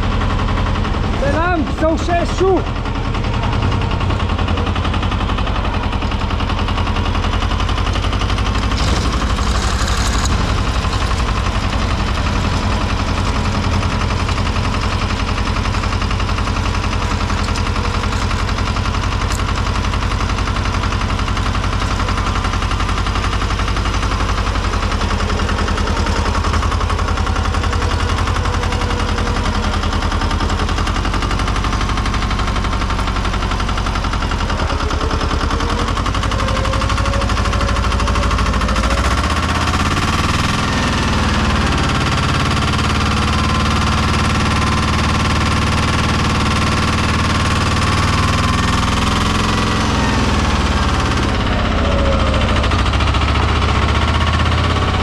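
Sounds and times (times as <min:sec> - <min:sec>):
tractor engine knocking steadily: 0:00.0 - 0:55.0.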